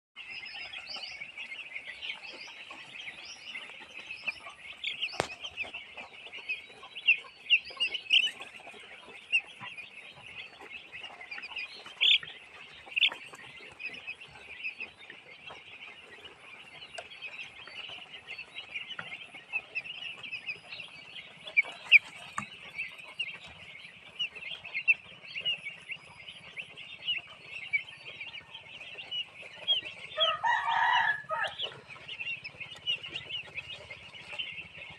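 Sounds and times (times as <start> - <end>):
chickens cheeping and clucking: 0.2 - 34.9.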